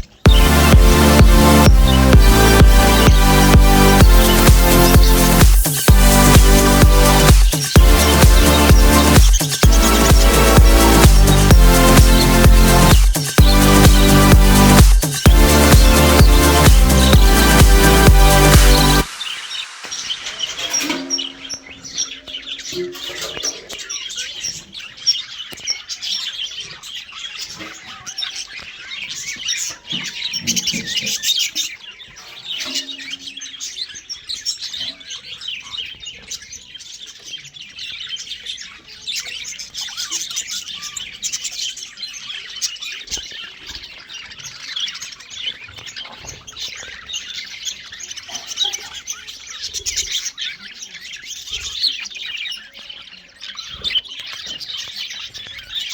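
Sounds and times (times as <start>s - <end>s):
budgerigars chattering and chirping: 0.0s - 55.9s.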